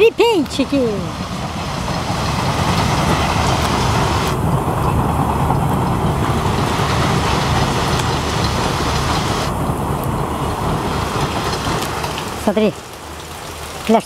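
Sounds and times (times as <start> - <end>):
freight train rumbling past: 0.0 - 13.7
rain falling: 0.0 - 14.0.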